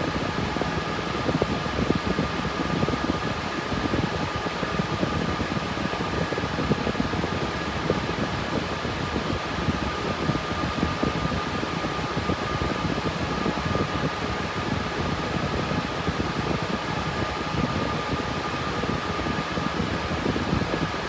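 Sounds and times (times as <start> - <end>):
cooling fans whirring: 0.0 - 21.0.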